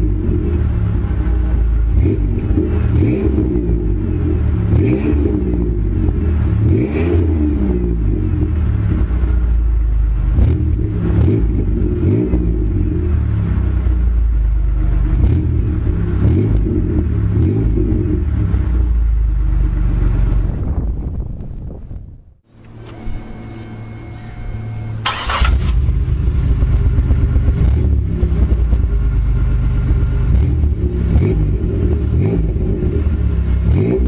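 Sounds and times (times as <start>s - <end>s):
car engine idling and revving: 0.0s - 34.0s.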